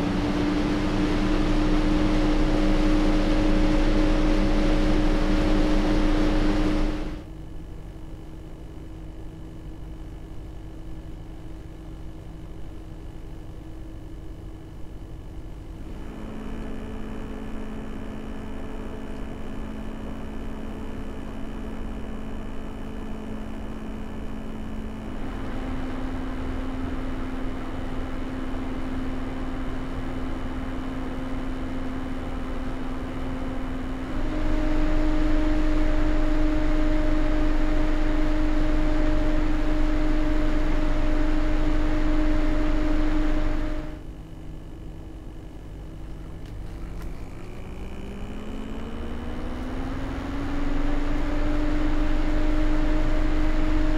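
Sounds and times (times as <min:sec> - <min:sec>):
cooler fan running: 0:00.0 - 0:53.9.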